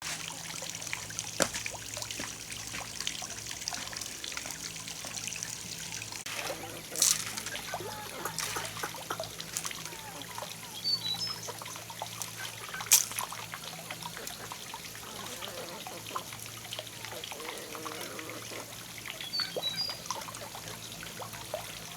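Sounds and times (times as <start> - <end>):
water trickling: 0.0 - 21.9.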